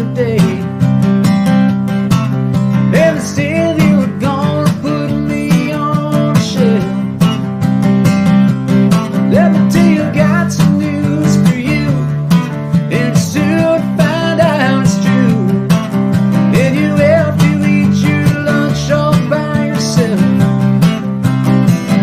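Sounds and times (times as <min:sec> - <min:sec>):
lead guitar with bending notes: 0:00.0 - 0:22.0
strummed acoustic guitar: 0:00.0 - 0:22.0.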